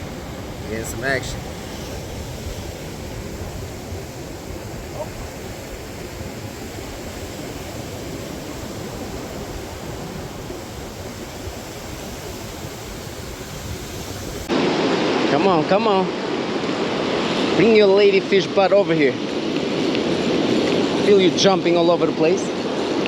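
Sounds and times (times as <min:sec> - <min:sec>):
surf rushing: 0:00.0 - 0:23.0
wind: 0:00.0 - 0:23.0
wind rumbling on microphone: 0:00.0 - 0:23.0.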